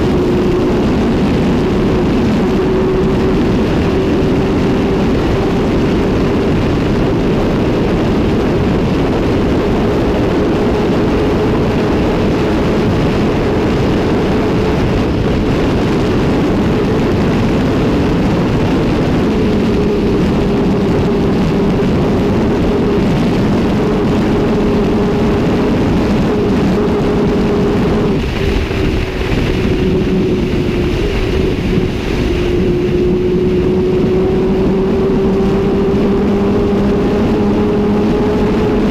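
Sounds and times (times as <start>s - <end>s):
motorcycle engine at high revs: 0.0s - 38.9s
wind rush: 0.0s - 38.9s.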